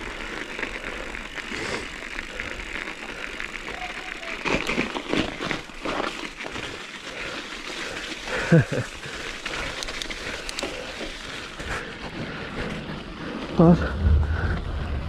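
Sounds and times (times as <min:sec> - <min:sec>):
bike tyres crunching through snow: 0:00.0 - 0:15.0.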